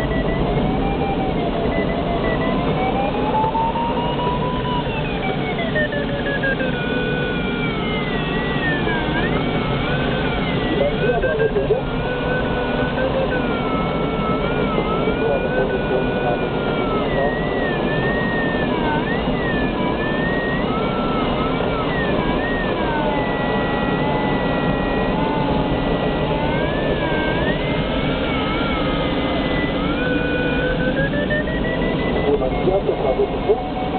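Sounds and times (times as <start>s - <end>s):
electronic variometer tone: 0.0s - 33.9s.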